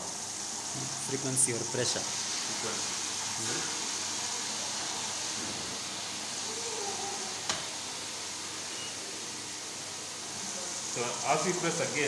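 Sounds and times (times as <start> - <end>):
water hissing through a valve: 0.0 - 12.0.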